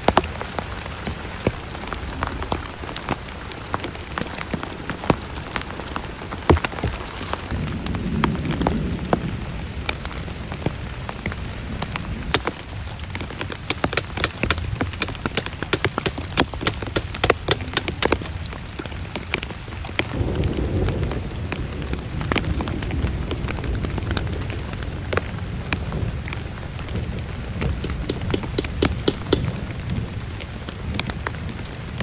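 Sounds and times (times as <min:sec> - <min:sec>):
heavy rain with tapping drops: 0:00.0 - 0:32.0.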